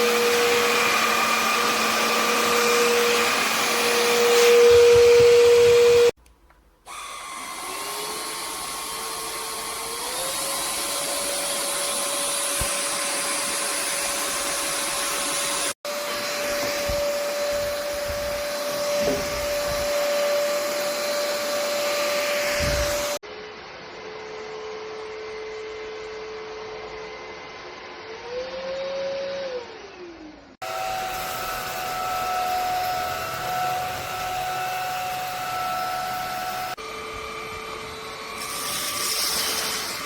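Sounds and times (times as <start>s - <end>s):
vacuum motor whining: 0.0s - 6.2s, 6.9s - 23.2s, 28.0s - 40.0s.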